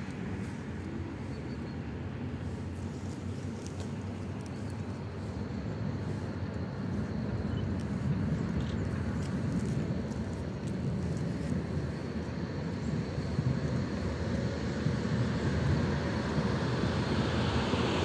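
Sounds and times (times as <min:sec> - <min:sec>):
tram rumbling: 0:00.0 - 0:18.0.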